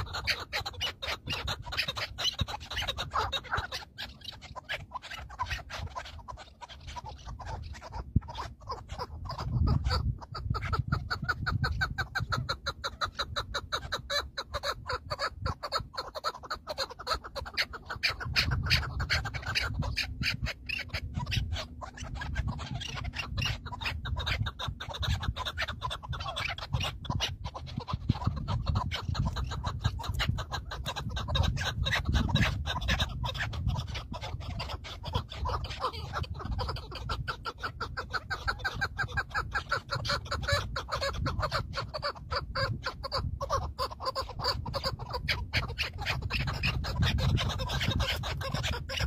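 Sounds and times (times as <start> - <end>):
partridges calling: 0.0 - 49.0.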